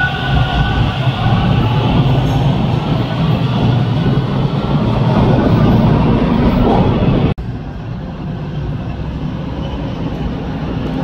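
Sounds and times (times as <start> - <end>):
distant subway train approaching: 0.0 - 11.0
subway train rumbling past: 0.0 - 11.0.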